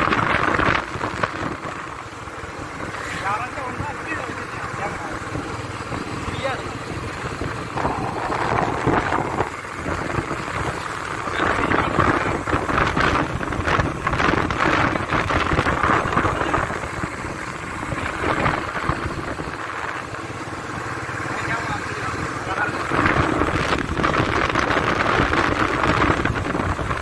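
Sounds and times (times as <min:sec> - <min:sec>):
wind buffeting microphone: 0:00.0 - 0:20.4, 0:22.5 - 0:27.0
motorbike engine rumble: 0:00.0 - 0:27.0
tyres on road: 0:00.0 - 0:27.0.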